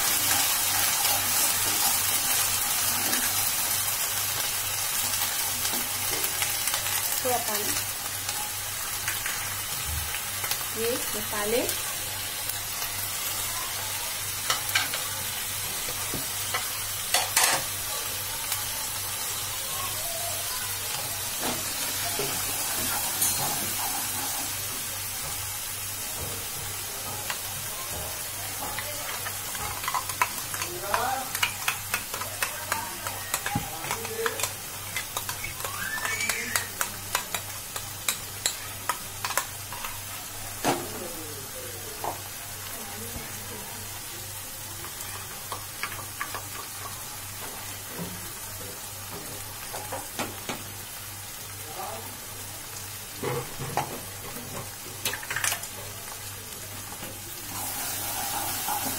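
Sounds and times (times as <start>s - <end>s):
oil sizzling in a pan: 0.0s - 58.9s.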